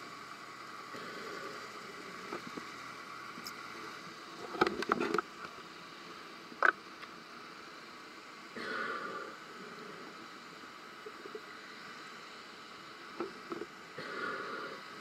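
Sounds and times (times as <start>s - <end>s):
underwater hiss: 0.0s - 4.6s, 5.4s - 15.0s
faint hum: 0.0s - 15.0s.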